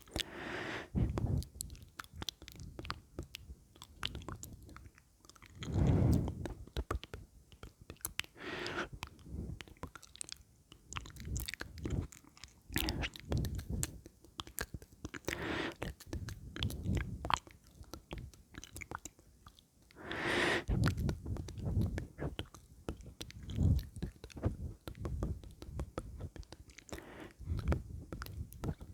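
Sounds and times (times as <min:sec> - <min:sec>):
tongue clicks: 0:00.0 - 0:28.9
wet lip smacks: 0:00.0 - 0:28.9.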